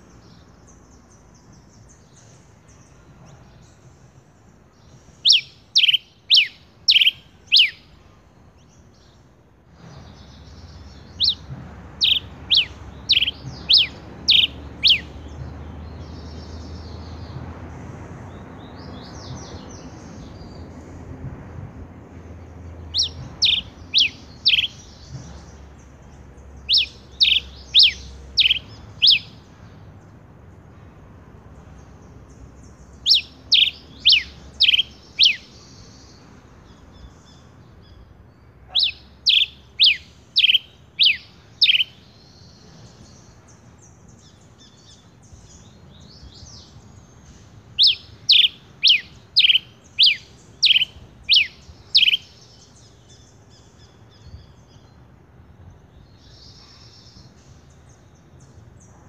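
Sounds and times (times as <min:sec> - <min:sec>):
finch singing: 0:00.0 - 0:17.5, 0:22.3 - 0:30.1, 0:31.6 - 0:55.0.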